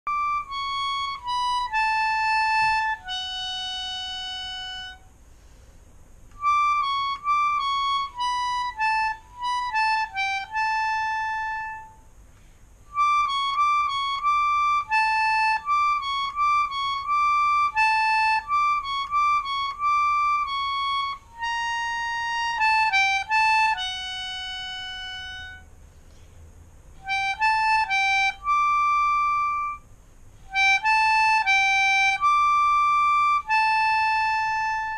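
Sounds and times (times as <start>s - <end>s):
melodica melody: 0.1s - 5.6s, 6.3s - 25.8s, 26.9s - 34.9s.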